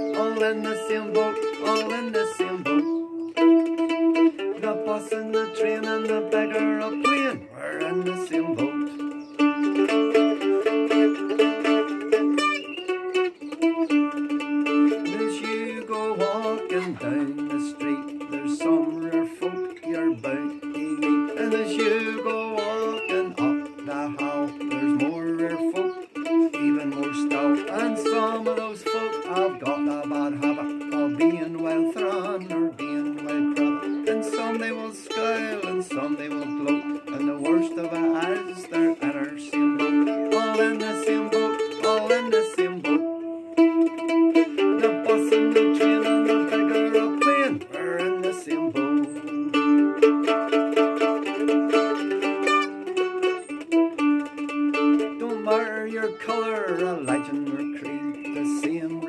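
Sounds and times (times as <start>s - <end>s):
man singing: 0.0s - 12.8s, 13.7s - 59.0s
mandolin playing folk tune: 0.0s - 59.0s.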